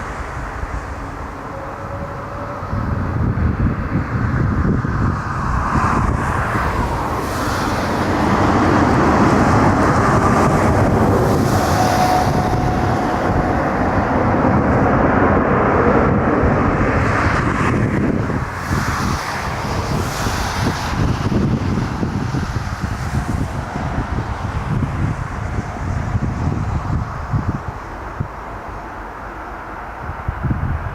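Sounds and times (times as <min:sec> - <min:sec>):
jet engines running: 0:00.0 - 0:30.9
wind buffeting microphone: 0:00.0 - 0:30.9.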